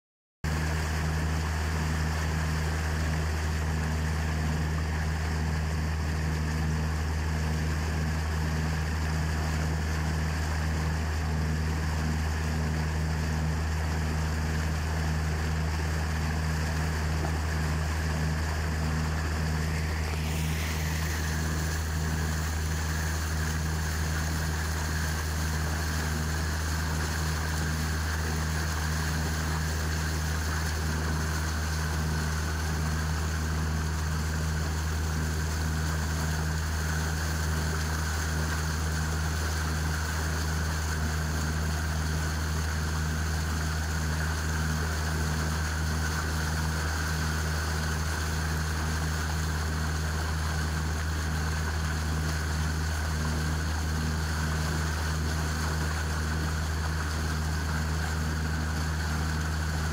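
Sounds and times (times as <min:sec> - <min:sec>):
boat motor droning: 0:00.5 - 0:59.9
water hissing along hull: 0:00.5 - 0:59.9.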